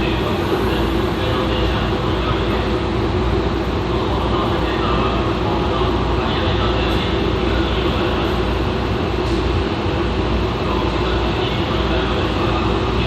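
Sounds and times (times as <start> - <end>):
train wheels and air rumble: 0.0 - 13.0.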